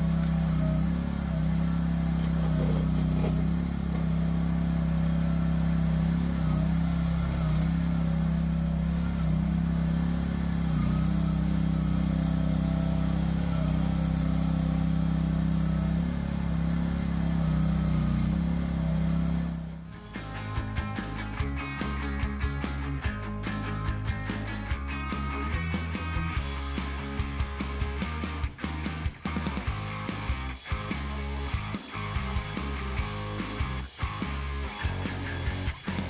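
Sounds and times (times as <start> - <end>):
excavator engine running: 0.0 - 36.0.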